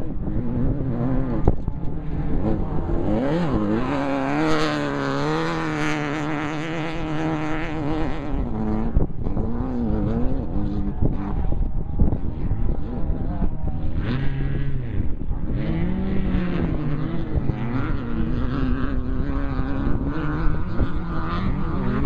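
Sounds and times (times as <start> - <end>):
race car engine running hard: 0.0 - 22.0
rough road and wind noise: 0.0 - 22.0.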